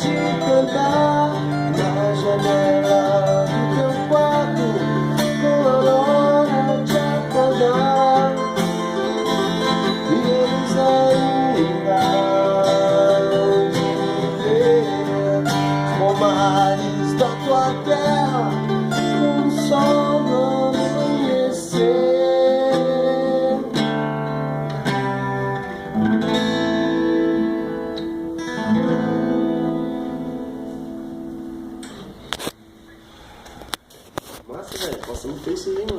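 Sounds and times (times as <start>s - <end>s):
acoustic guitar playing: 0.0s - 35.9s.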